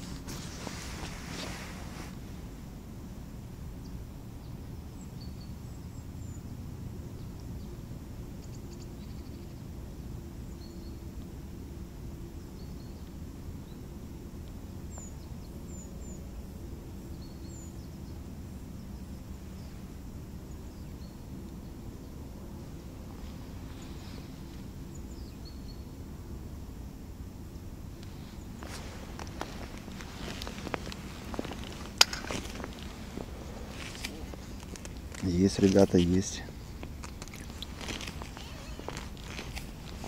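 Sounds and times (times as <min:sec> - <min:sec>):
low outdoor rumble: 0:00.0 - 0:40.0
small birds chirping: 0:03.8 - 0:09.8, 0:10.4 - 0:11.3, 0:12.2 - 0:26.1, 0:27.8 - 0:40.0.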